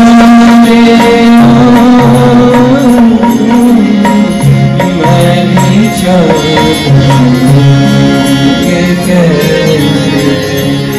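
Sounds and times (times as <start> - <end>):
electronic keyboard: 0.0 - 10.9
harmonium: 0.0 - 10.9
men singing devotional song: 0.0 - 10.9.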